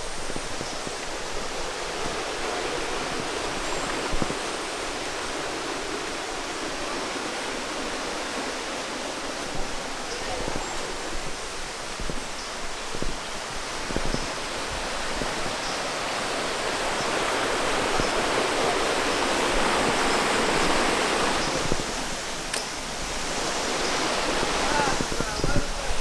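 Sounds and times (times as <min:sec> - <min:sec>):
river water over rocks: 0:00.0 - 0:26.0.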